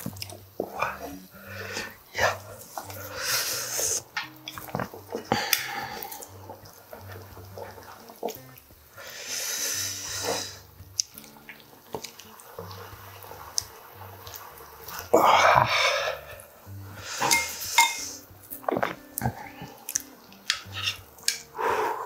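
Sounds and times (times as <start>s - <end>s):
tongs clicking against pot: 0.0s - 8.8s, 10.1s - 15.1s, 17.1s - 21.6s
broth simmering in a pot: 0.0s - 22.0s.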